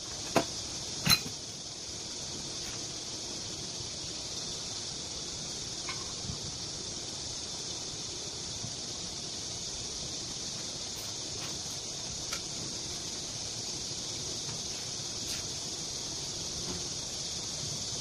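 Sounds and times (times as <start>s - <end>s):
high-pitched hiss: 0.0s - 18.0s.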